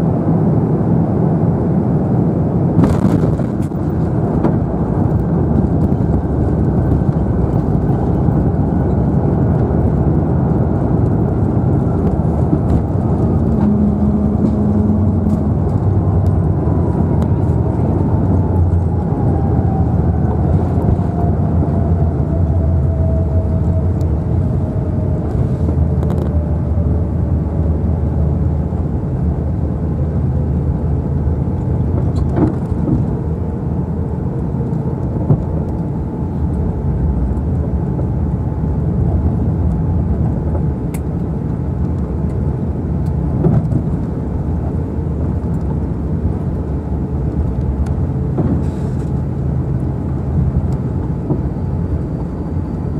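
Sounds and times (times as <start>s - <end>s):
jet engines whining down: 0.0s - 52.9s
wheels and airframe rumble: 0.0s - 52.9s.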